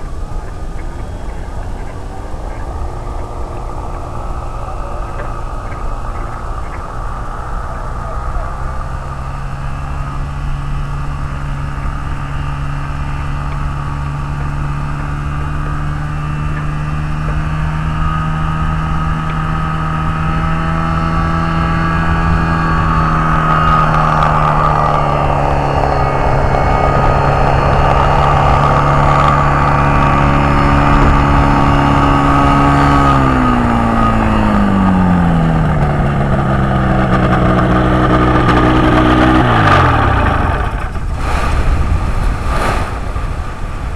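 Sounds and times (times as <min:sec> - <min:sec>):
aircraft engine and propeller: 0:00.0 - 0:43.9.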